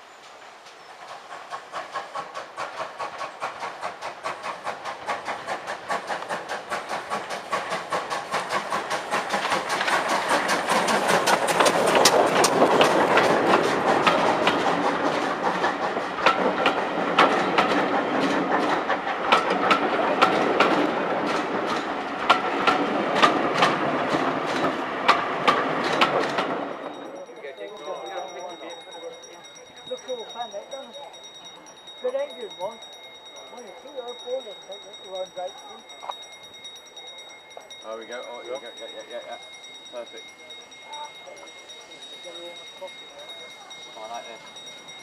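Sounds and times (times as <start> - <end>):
steam locomotive exhaust beats: 0.0 - 45.0
wheels clattering over rails: 0.2 - 45.0.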